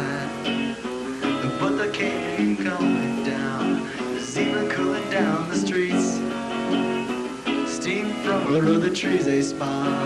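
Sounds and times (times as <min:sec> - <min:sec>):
live band guitar music: 0:00.0 - 0:10.0.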